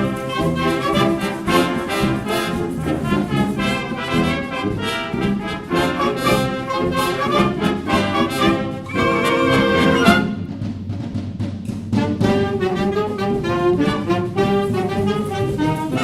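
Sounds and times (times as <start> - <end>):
wind band playing: 0.0 - 10.9, 11.8 - 16.0.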